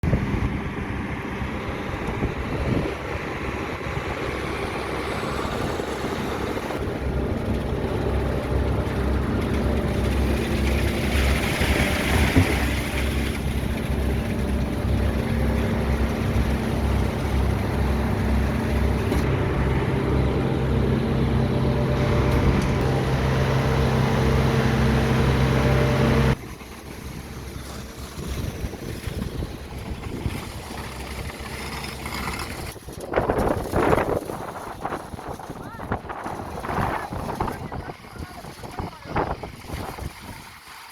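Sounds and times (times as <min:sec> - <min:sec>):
diesel engine throbbing: 0:00.0 - 0:32.8.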